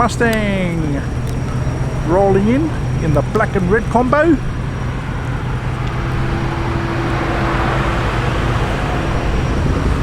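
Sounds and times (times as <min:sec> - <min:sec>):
car engine low rumble: 0:00.0 - 0:10.0
road and tyre noise: 0:00.0 - 0:10.0.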